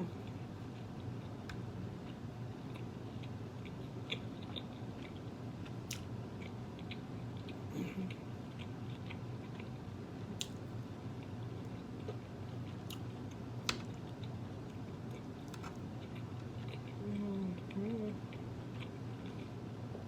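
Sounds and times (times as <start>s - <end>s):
steady low hum: 0.0s - 20.0s
person chewing food: 0.2s - 19.6s.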